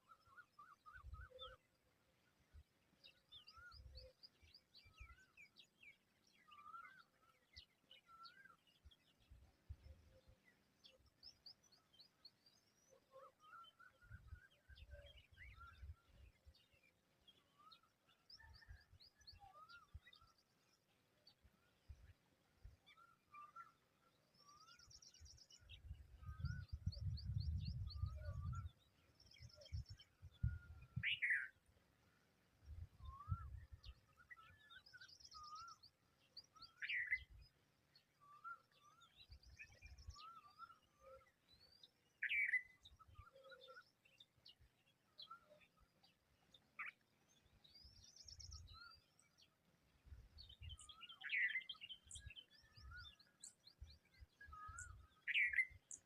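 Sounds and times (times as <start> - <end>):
soft bird chirps: 0.0 - 56.0.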